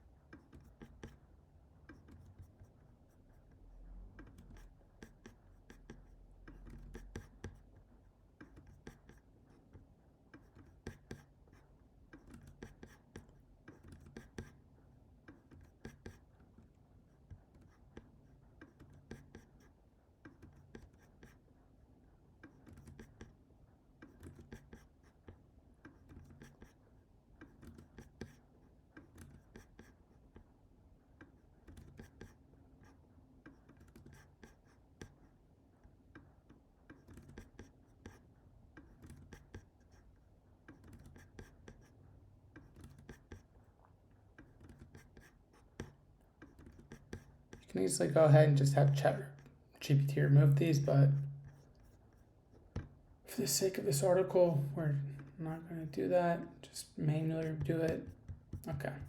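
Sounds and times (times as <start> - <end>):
faint low room hum: 0.0 - 59.0.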